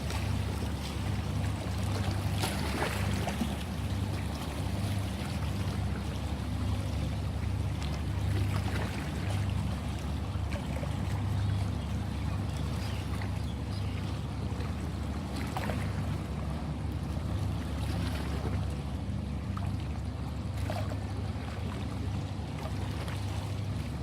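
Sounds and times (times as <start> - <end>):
sea waves washing and splashing: 0.0 - 24.0.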